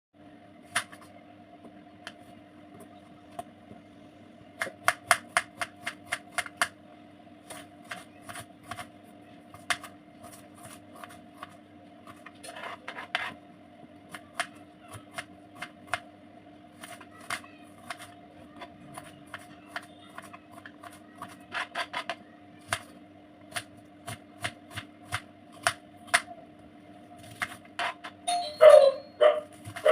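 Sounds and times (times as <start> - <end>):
steady low hum: 0.2 - 29.9.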